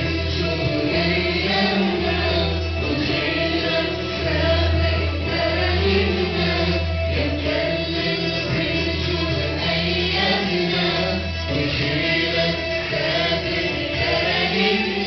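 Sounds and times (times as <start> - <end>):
congregation singing a hymn: 0.0 - 15.0
sustained low accompaniment: 0.0 - 15.0.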